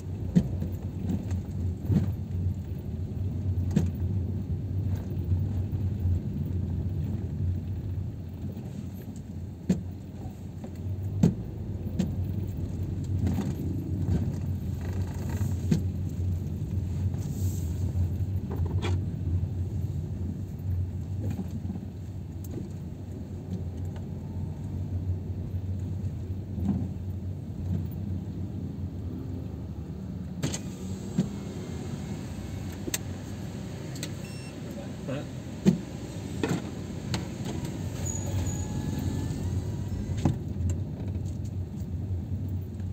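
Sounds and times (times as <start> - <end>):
interior clicks and rattles: 0.0 - 29.4, 32.4 - 42.9
low rumble of engine and tyres: 0.0 - 42.9.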